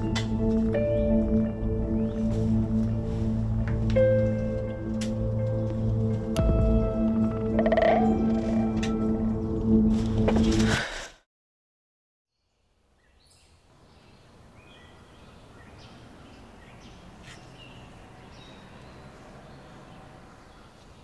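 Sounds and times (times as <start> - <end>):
outdoor ambience: 0.0 - 11.2, 12.4 - 21.0.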